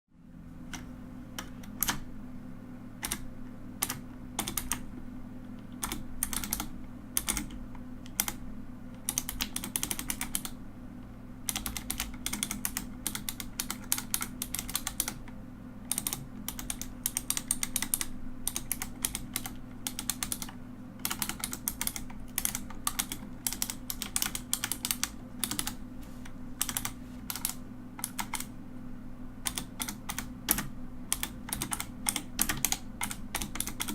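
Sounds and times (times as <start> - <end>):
low steady hum: 0.1 - 33.9
mechanical keyboard typing: 0.7 - 2.0, 3.0 - 4.9, 5.7 - 8.4, 9.0 - 10.6, 11.4 - 25.8, 26.6 - 28.5, 29.4 - 33.9.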